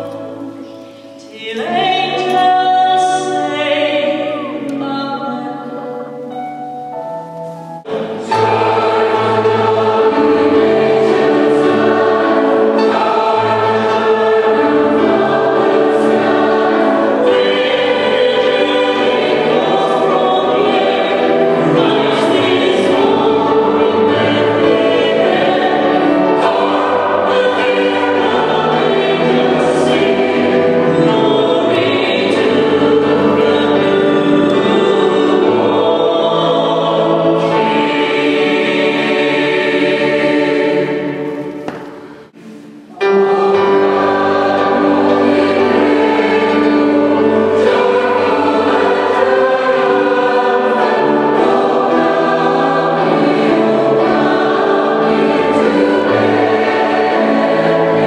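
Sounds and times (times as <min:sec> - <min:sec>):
large choir singing: 0:00.0 - 0:58.0
soloists singing into microphones: 0:07.8 - 0:58.0.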